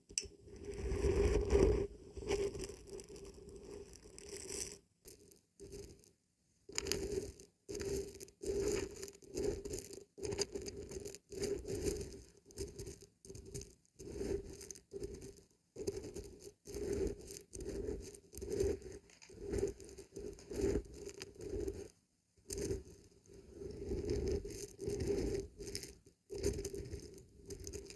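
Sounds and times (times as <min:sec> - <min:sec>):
dried beans rattling in a container: 0:02.3 - 0:06.1, 0:06.7 - 0:21.9, 0:22.5 - 0:27.9.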